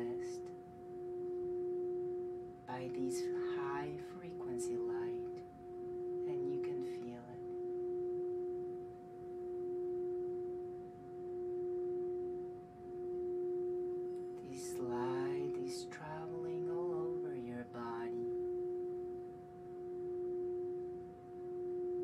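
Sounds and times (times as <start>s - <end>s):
singing bowl humming tone: 0.0s - 22.0s.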